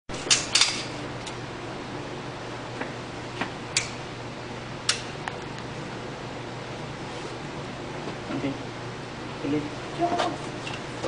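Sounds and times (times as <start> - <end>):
ventilation hum: 0.1 - 11.0.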